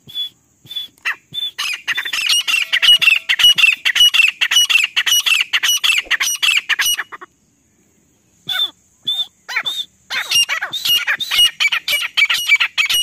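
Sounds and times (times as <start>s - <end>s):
francolin calling: 0.0s - 13.0s.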